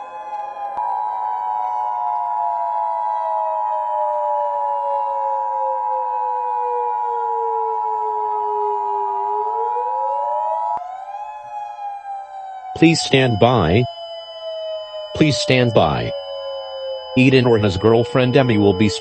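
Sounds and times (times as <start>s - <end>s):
wailing siren: 0.0s - 19.0s.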